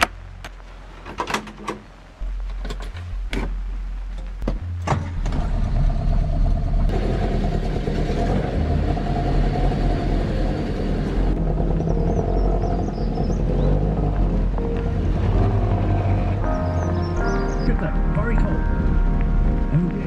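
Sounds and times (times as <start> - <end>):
car engine running: 2.2 - 19.9.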